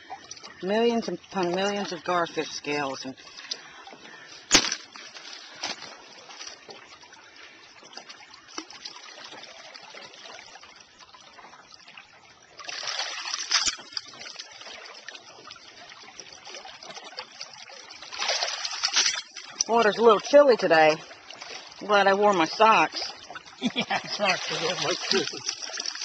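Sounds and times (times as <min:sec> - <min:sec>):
rush of water: 0:00.0 - 0:26.0
shallow river trickling: 0:00.0 - 0:26.0.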